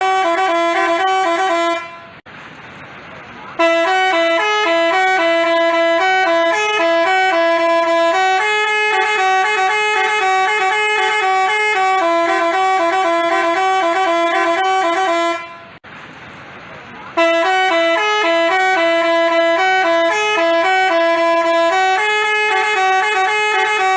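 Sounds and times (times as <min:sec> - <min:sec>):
multi-tone bus horn melody: 0:00.0 - 0:02.2, 0:03.6 - 0:15.8, 0:17.1 - 0:23.9.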